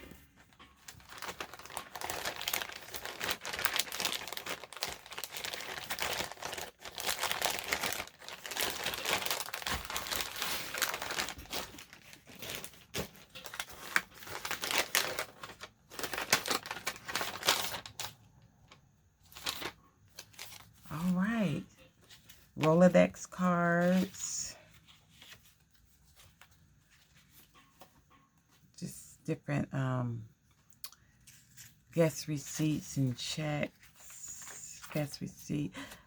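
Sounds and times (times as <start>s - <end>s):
paper and packaging crinkling: 0.0s - 28.6s, 30.6s - 36.0s.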